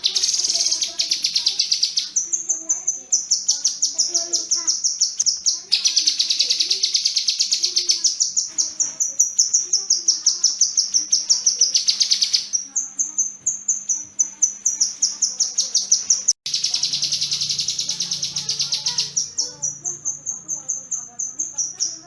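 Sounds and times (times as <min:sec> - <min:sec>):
bird singing sharp high chirps: 0:00.0 - 0:22.0.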